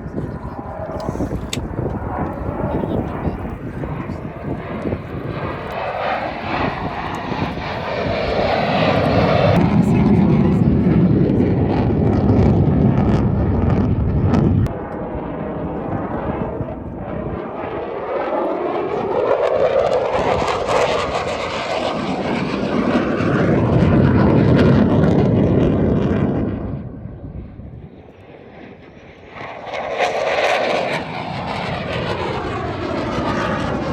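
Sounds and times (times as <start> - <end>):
aircraft flying overhead: 0.0 - 33.9.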